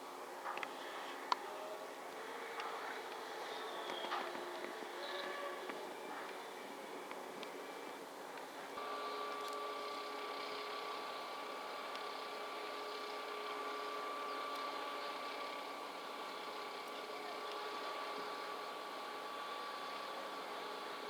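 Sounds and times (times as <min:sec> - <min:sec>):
machinery humming: 0:00.8 - 0:21.0
high machinery whine: 0:01.5 - 0:21.0.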